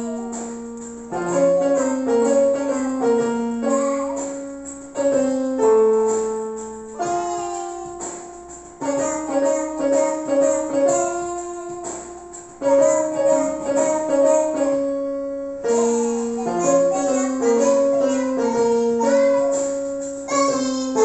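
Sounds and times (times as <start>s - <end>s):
electronic keyboard piano melody: 0.0s - 21.0s.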